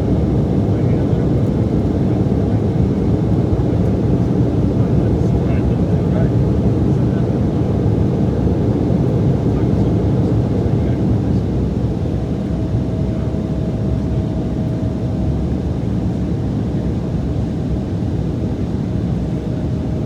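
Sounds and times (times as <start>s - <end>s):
jet engine and airflow noise: 0.0s - 20.0s.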